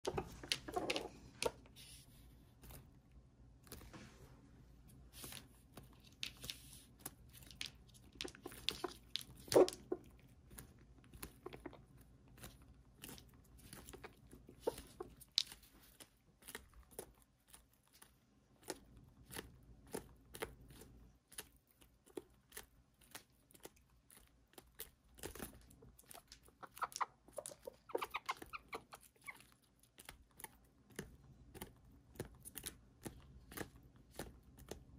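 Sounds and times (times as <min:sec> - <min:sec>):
beaks pecking cabbage leaves: 0:00.0 - 0:02.9, 0:05.1 - 0:34.9.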